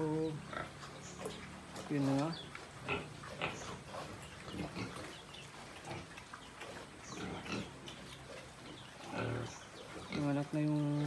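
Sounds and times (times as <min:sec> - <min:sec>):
pigs grunting softly: 0:00.0 - 0:10.6.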